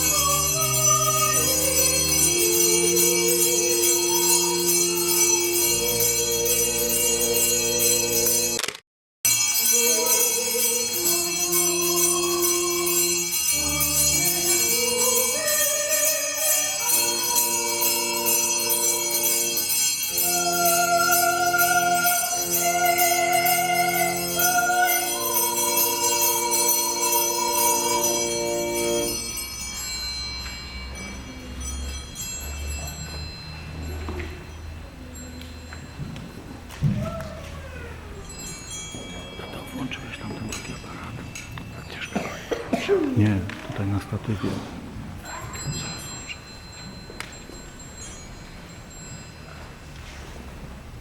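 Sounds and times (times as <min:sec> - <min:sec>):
bells jingling: 0:00.0 - 0:08.6, 0:09.3 - 0:51.0
church music with held notes: 0:00.0 - 0:08.7, 0:09.3 - 0:48.1.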